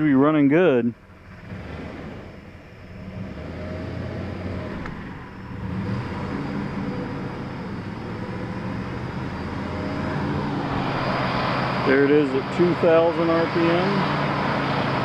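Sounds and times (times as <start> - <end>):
engine running fast: 0.0 - 15.0.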